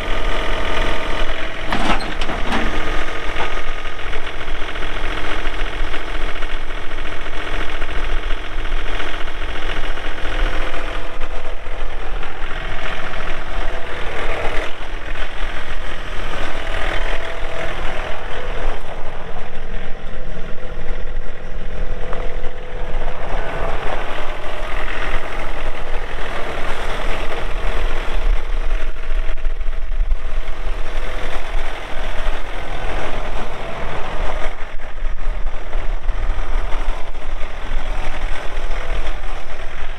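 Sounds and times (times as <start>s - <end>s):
tractor diesel engine clattering: 0.0s - 39.9s.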